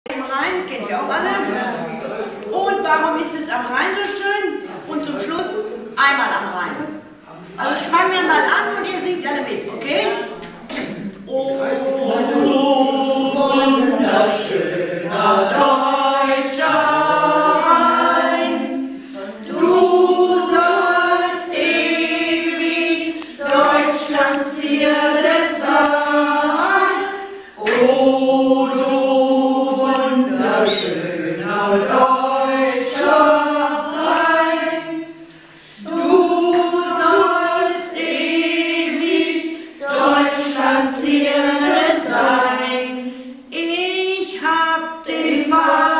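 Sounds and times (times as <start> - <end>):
group singing unaccompanied: 6.8 - 45.9.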